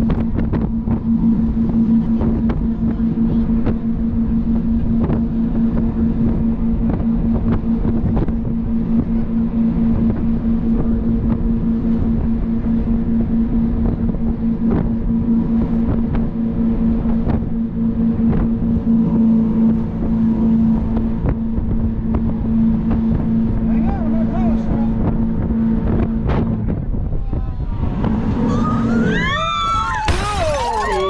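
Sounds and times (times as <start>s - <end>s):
boat engines droning: 0.0s - 31.0s
wind buffeting microphone: 0.0s - 31.0s.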